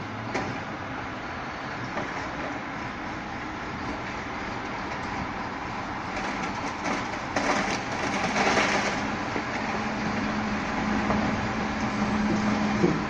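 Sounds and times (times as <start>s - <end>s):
garbage truck compactor running: 0.0s - 13.0s.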